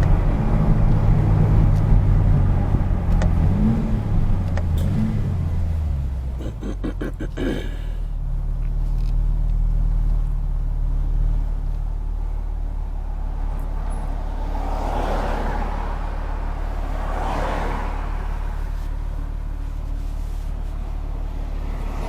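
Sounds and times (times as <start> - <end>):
car engine at low revs: 0.0 - 22.0.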